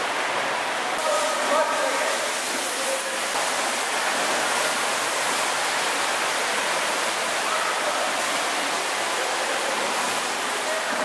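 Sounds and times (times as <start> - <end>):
churning water rushing: 0.0 - 11.0.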